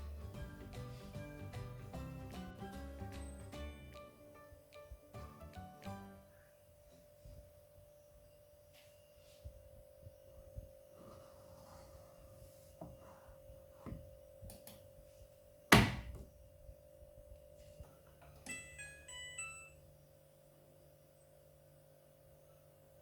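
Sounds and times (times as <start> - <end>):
faint steady hum: 3.9 - 23.0.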